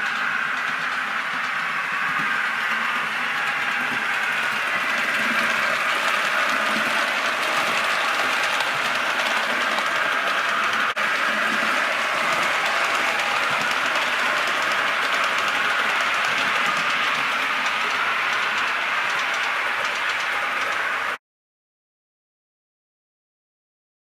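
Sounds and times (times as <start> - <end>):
model train motor and wheels: 0.0 - 21.2.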